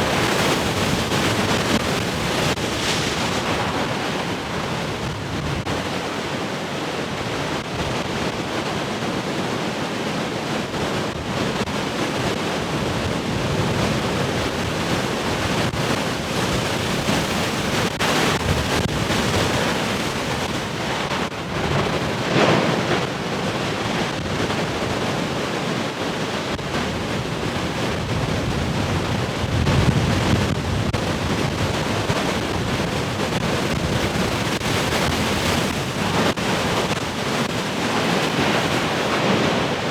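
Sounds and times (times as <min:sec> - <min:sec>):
ocean waves breaking: 0:00.0 - 0:39.9
wind buffeting microphone: 0:00.0 - 0:39.9.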